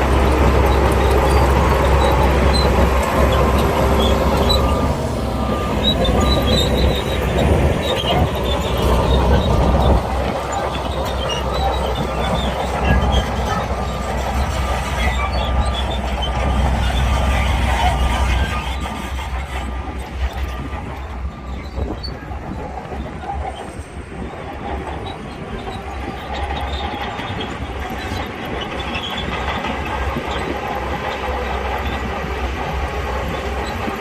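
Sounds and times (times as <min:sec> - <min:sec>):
bulldozer diesel engine rumbling: 0:00.0 - 0:34.0
steel tracks clanking and squealing: 0:00.0 - 0:34.0.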